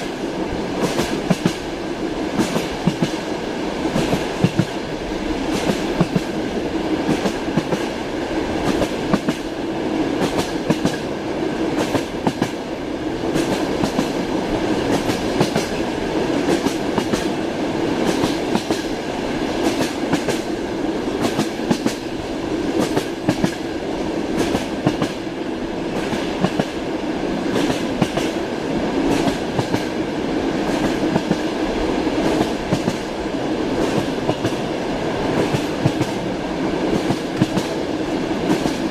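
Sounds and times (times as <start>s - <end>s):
train carriage rumble: 0.0s - 38.9s
train wheels clicking over rail joints: 0.8s - 1.7s, 2.3s - 4.8s, 5.4s - 8.0s, 8.6s - 9.6s, 10.2s - 11.1s, 11.8s - 17.4s, 18.0s - 20.6s, 21.2s - 22.1s, 22.7s - 23.7s, 24.3s - 25.3s, 25.9s - 26.8s, 27.4s - 28.4s, 29.0s - 38.9s.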